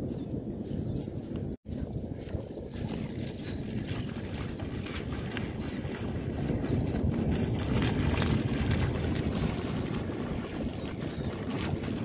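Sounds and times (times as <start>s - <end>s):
wind buffeting microphone: 0.0s - 12.0s
dog running through shallow water: 0.1s - 12.0s.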